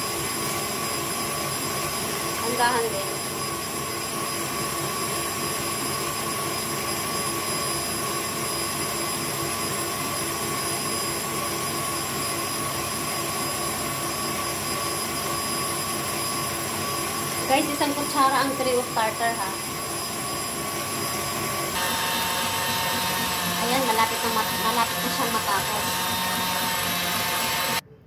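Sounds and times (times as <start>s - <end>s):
stand mixer whisking: 0.1s - 27.8s.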